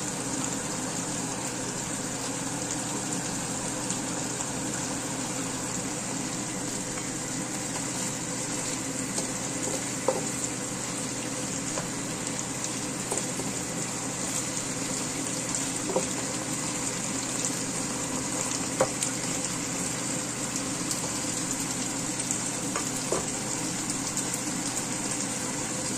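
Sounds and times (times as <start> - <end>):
fish sizzling in a wok: 0.0 - 25.9.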